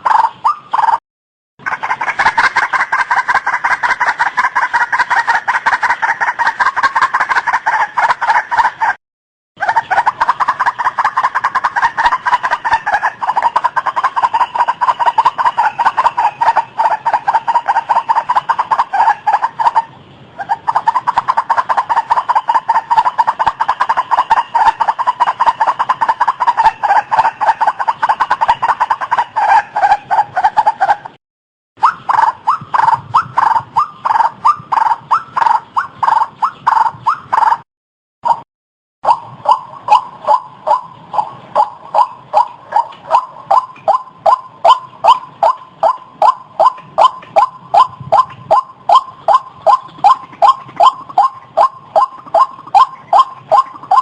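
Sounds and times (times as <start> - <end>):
waterhen calling: 0.0 - 1.0, 1.6 - 9.0, 9.6 - 31.2, 31.8 - 37.6, 39.0 - 54.0.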